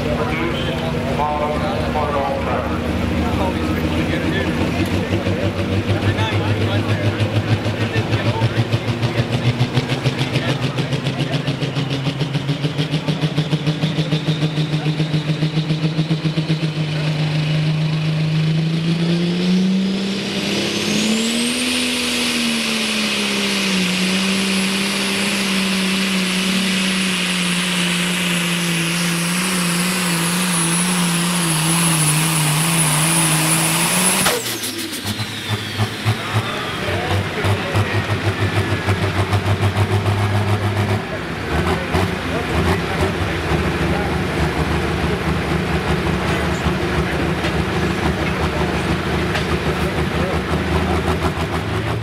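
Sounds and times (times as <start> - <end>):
tractor engine revving with whine: 0.0 - 52.0.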